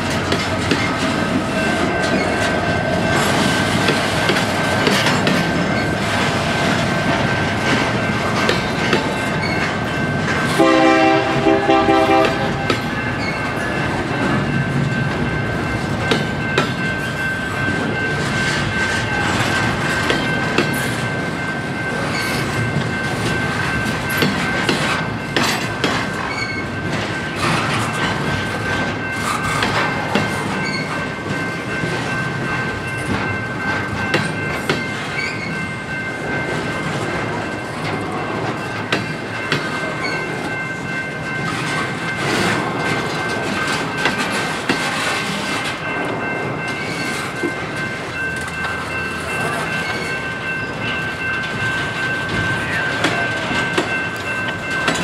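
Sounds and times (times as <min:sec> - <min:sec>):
freight train rumbling past: 0:00.0 - 0:55.0
wheels clanking over rail joints: 0:00.0 - 0:55.0.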